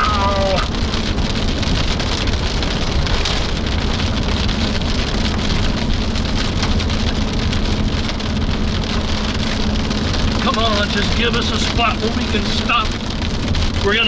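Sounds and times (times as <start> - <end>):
rain and hail hitting vehicle roof: 0.0 - 14.0
road and engine rumble: 0.0 - 14.0.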